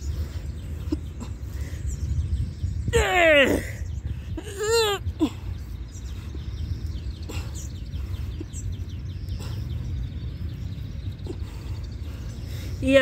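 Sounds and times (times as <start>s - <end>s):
faint bird chirps: 0.0s - 13.0s
low outdoor rumble: 0.0s - 13.0s.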